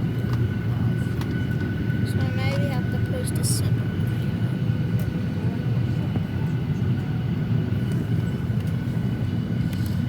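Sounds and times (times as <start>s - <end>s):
aircraft cabin drone: 0.0s - 10.0s.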